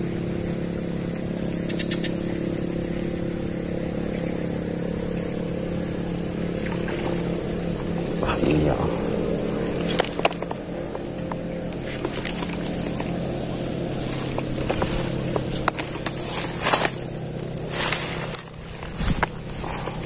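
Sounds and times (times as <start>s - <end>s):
low motor hum: 0.0s - 20.0s
rustling through grass and leaves: 0.0s - 20.0s.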